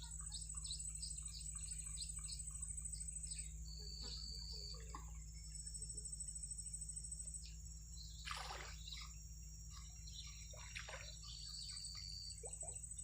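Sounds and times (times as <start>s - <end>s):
bird chirps: 0.0s - 13.0s
insects buzzing: 0.0s - 13.0s.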